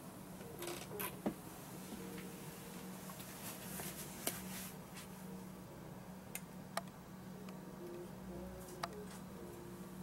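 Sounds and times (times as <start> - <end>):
low hum with faint hiss: 0.0 - 10.0.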